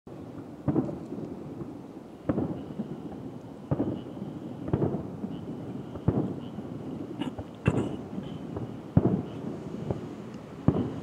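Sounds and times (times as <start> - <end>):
firework shells bursting: 0.6 - 11.0.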